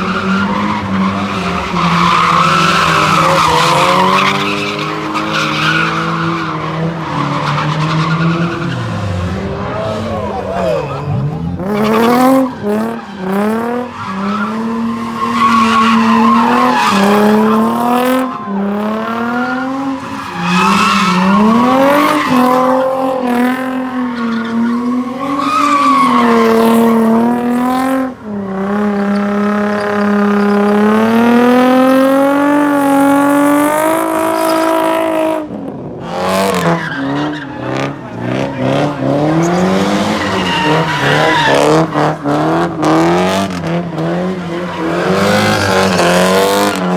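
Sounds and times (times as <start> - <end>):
tires squealing: 0.0 - 46.9
car engine revving hard: 8.1 - 46.9.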